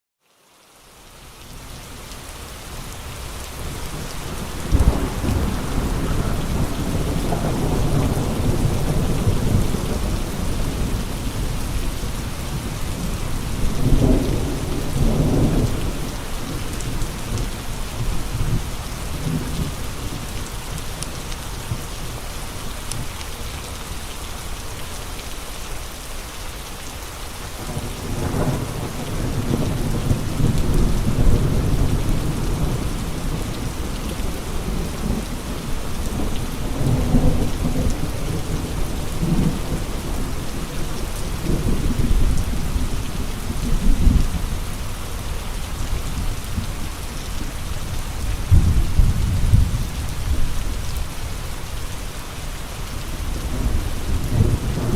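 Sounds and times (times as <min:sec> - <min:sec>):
heavy rain: 0:00.2 - 0:54.9
gusting wind: 0:03.1 - 0:22.3, 0:28.5 - 0:54.9.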